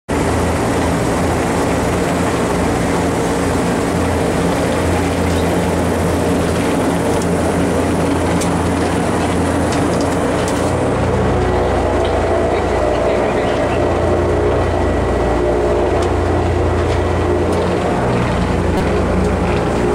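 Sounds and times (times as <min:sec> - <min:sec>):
engines and propellers droning: 0:00.1 - 0:19.9.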